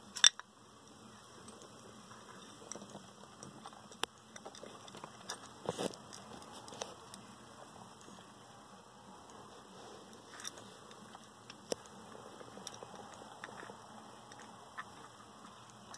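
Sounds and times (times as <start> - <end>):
crabs scratching: 1.0 - 15.9.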